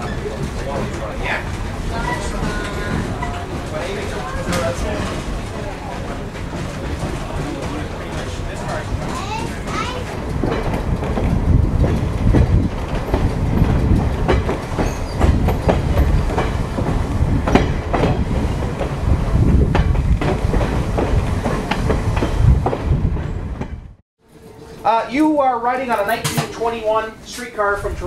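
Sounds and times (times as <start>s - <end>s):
wheels clicking and rattling: 0.0s - 23.7s
streetcar rumbling on track: 0.0s - 28.0s.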